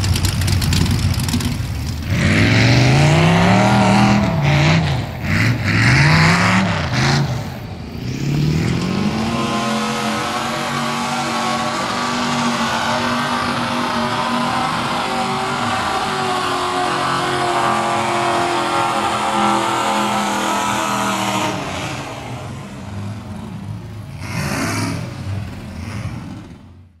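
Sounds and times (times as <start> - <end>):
truck engine at high revs: 0.0 - 27.0.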